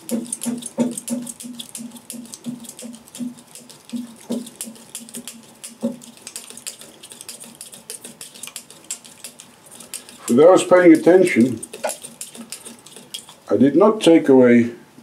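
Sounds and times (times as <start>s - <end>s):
thread rubbing with rhythmic ticks: 0.0s - 13.5s.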